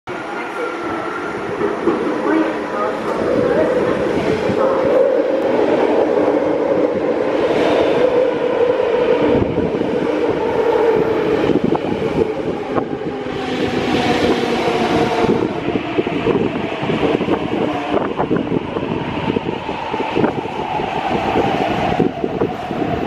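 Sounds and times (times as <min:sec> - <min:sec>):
train wheels rumbling on rails: 0:00.1 - 0:23.0.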